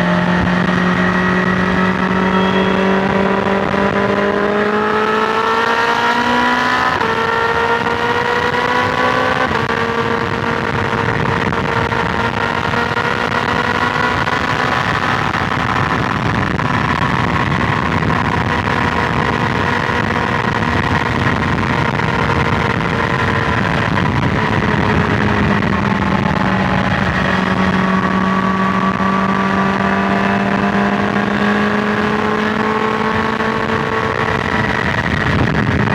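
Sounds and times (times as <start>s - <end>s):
motorcycle engine cruising: 0.0s - 35.9s
wind and road noise: 0.0s - 35.9s.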